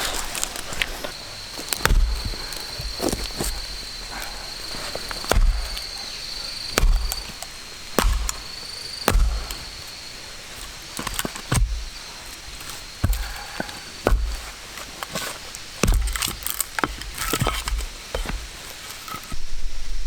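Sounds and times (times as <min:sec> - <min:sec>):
blade chopping wood: 0:00.0 - 0:19.4.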